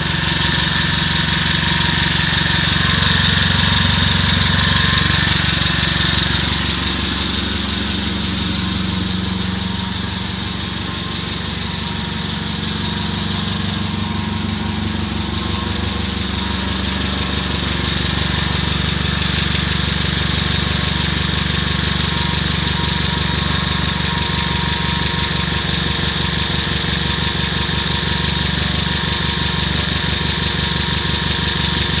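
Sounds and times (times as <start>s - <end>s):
forklift engine idling: 0.0s - 32.0s.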